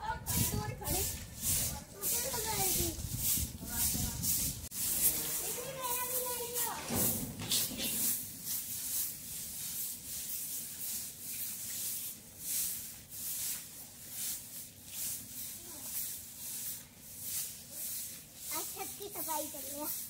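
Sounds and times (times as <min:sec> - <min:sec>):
brooms sweeping concrete: 0:00.0 - 0:20.0.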